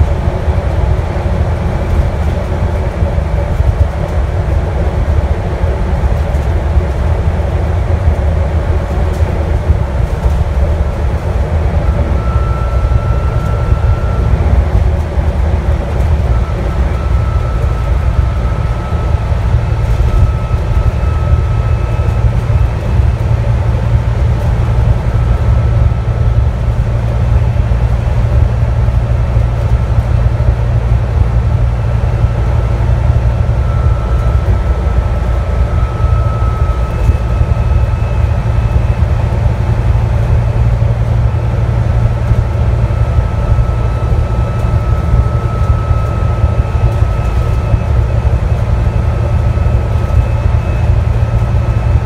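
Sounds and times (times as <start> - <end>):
bus engine drone: 0.0 - 52.0
thin high whine: 9.1 - 52.0.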